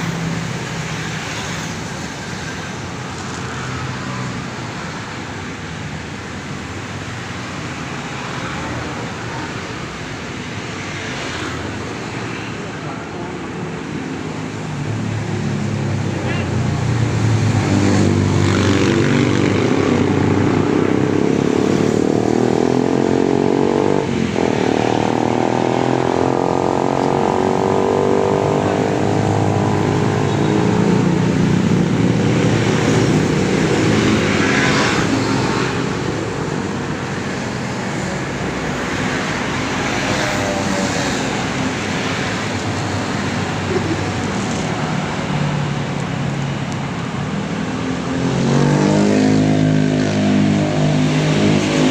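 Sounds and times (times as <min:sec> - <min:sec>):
road noise: 0:00.0 - 0:51.9.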